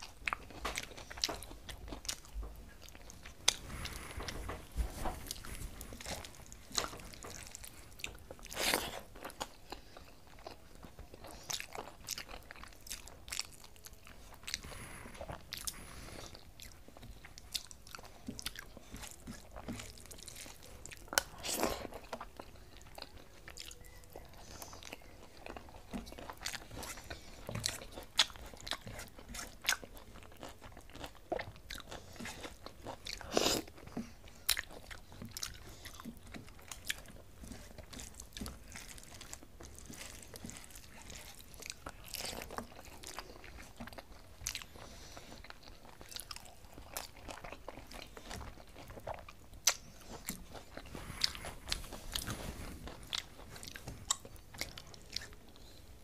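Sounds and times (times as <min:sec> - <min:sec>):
person chewing with wet smacks: 0:00.0 - 0:56.0.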